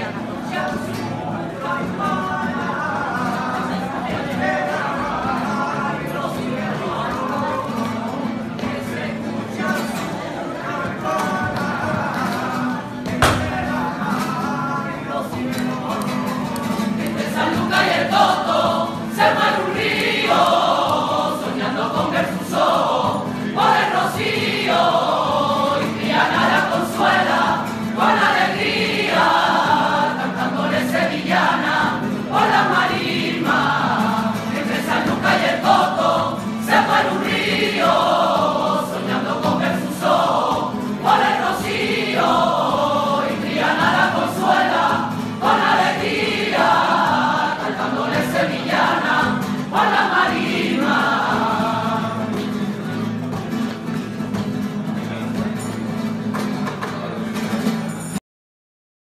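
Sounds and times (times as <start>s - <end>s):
choir singing devotional song: 0.0s - 52.8s.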